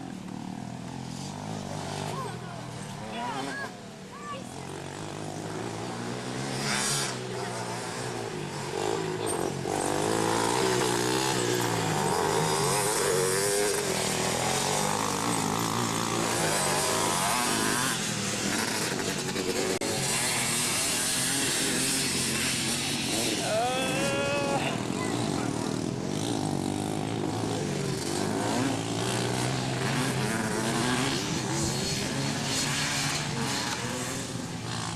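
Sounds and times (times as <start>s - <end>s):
racing engines revving: 0.0s - 34.9s.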